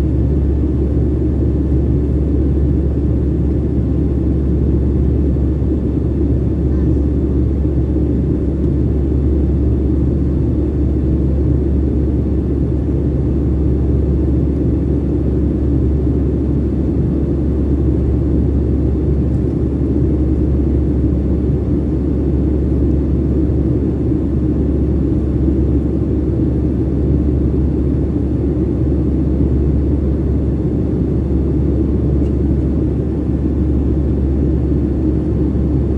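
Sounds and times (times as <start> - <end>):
jet engine cabin rumble: 0.0 - 35.9.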